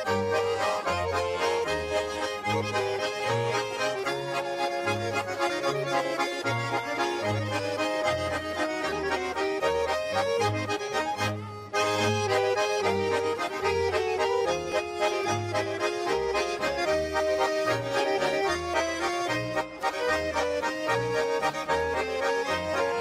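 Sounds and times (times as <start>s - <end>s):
button accordions playing dance tune: 0.0s - 23.0s.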